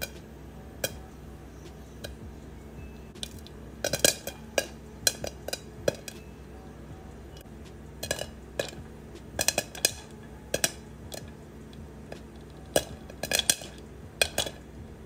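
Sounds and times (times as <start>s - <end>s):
popcorn popping in a pan: 0.0s - 6.4s, 7.2s - 15.0s.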